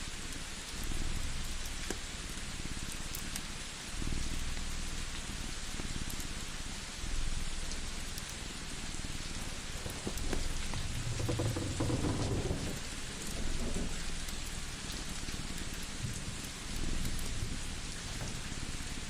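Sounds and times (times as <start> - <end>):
rain-like hiss: 0.0 - 19.0
small crackles: 0.3 - 19.0.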